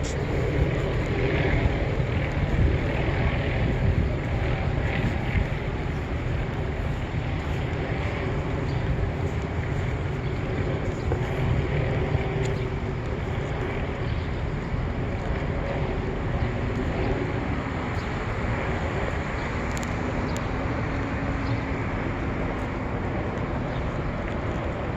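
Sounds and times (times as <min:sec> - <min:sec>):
low mechanical rumble: 0:00.0 - 0:24.9
wind noise on microphone: 0:00.0 - 0:24.9.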